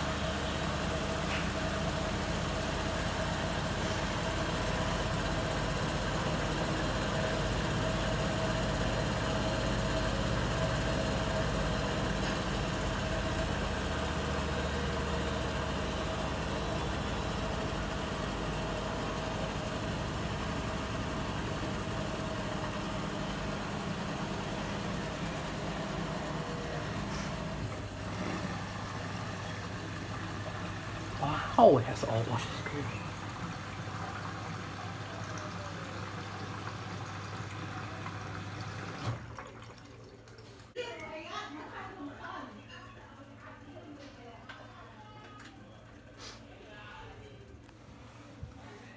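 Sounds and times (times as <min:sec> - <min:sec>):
washing machine spinning: 0:00.0 - 0:48.9.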